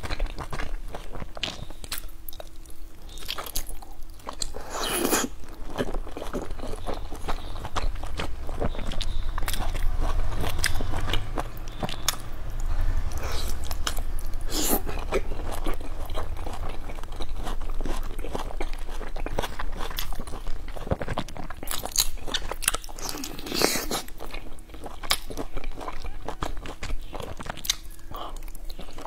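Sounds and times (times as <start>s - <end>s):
crunchy chewing: 0.0s - 29.0s.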